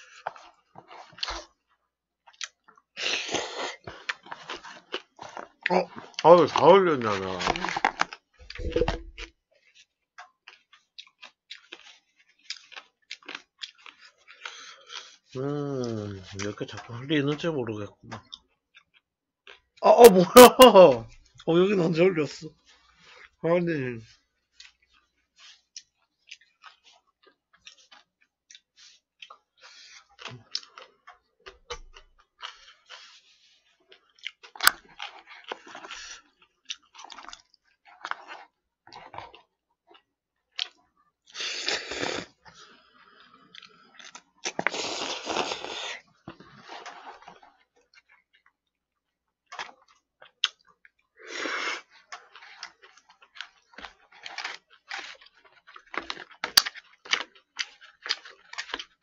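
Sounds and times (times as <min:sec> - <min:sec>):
wet chewing and smacking: 0:00.0 - 0:23.4, 0:24.0 - 0:59.0.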